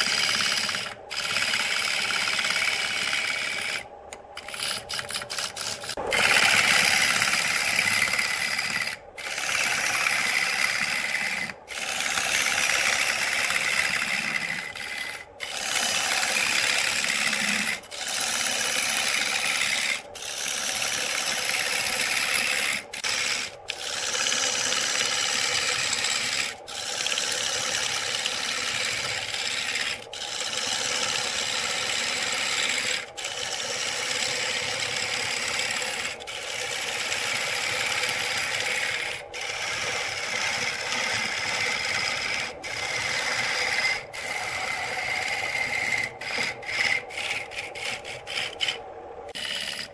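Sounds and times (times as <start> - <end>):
lathe tool scraping wood: 0.0 - 49.9.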